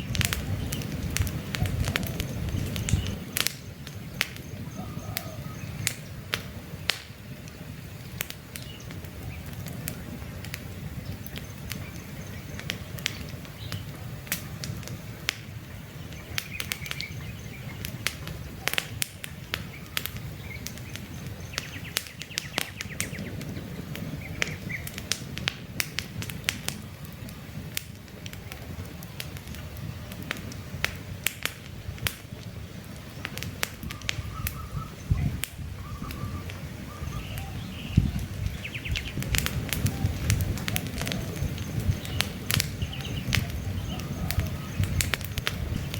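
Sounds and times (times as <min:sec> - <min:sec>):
birds chirping: 0:00.0 - 0:25.3, 0:26.0 - 0:30.9, 0:32.2 - 0:45.9
campfire crackling and popping: 0:00.0 - 0:45.9.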